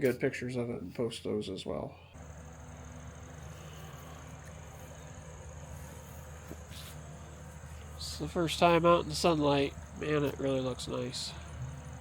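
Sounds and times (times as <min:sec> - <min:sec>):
high insect trill: 0:02.2 - 0:12.0
small engine idling: 0:02.2 - 0:12.0.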